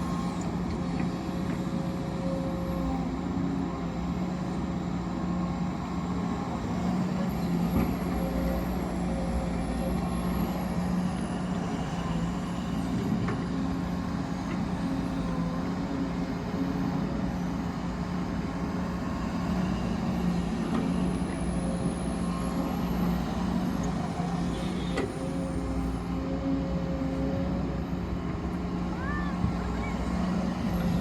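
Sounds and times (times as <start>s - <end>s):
heavy machinery engine drone: 0.0s - 31.0s.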